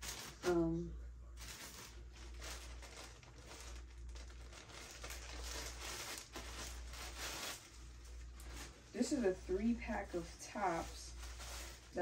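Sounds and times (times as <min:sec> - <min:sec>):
clothes and packaging rustling: 0:00.0 - 0:12.0
low steady hum: 0:00.0 - 0:12.0.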